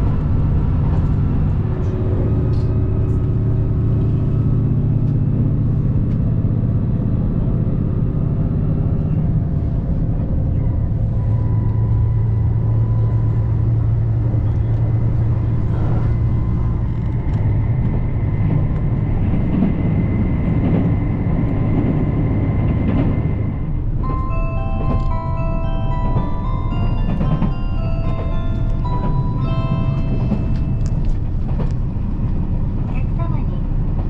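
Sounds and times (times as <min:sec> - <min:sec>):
diesel engine drone: 0:00.0 - 0:34.0
rail rumbling: 0:00.0 - 0:34.0.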